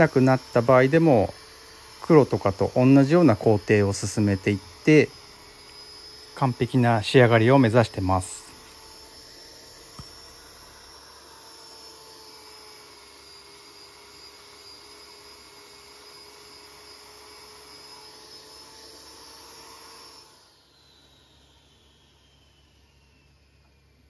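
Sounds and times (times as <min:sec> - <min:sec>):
power polisher whine: 0:00.0 - 0:24.0.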